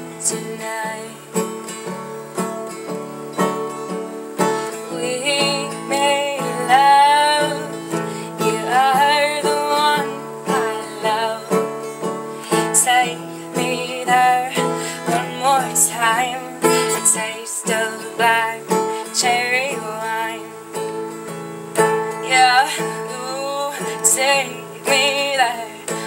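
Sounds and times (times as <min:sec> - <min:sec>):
woman singing wordless melody: 0:00.0 - 0:02.4, 0:04.2 - 0:26.0
acoustic guitar strumming chords: 0:00.0 - 0:26.0.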